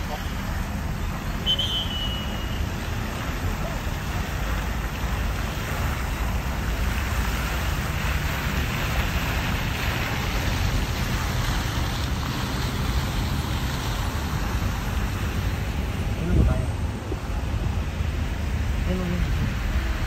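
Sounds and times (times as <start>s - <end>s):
car driving slowly: 0.0s - 20.0s
fountain water spray hissing: 0.0s - 20.0s.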